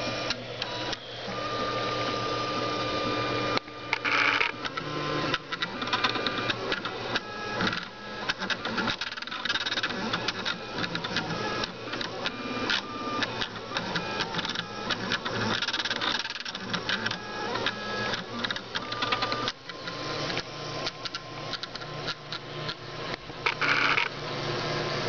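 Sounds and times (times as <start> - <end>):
stepper motors whining: 0.0 - 25.0.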